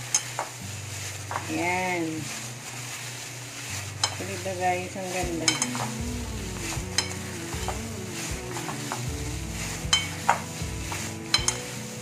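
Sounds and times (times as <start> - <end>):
plastic glove crinkling: 0.0 - 12.0.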